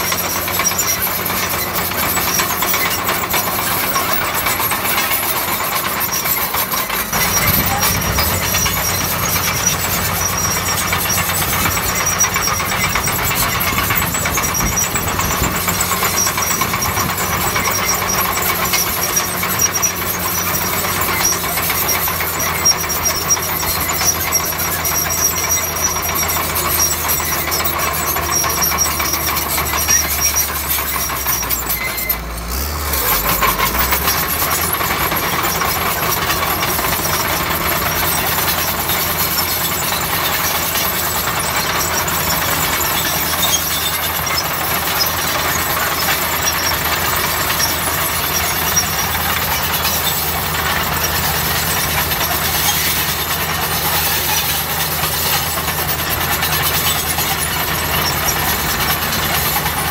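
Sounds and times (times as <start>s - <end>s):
diesel bulldozer engine running: 0.0s - 59.9s.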